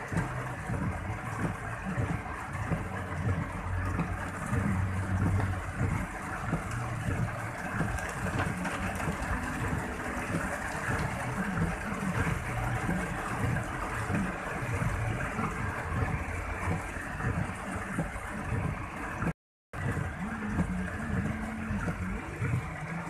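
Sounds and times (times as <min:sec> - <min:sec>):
car rumbling in traffic: 0:00.0 - 0:23.0
heavy rain on car roof: 0:00.0 - 0:23.0.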